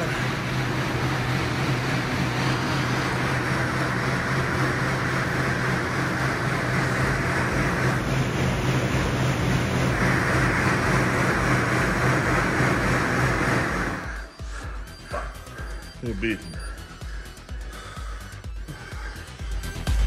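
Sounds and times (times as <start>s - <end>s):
air bike fan whooshing: 0.0s - 20.0s
low hum: 0.0s - 20.0s.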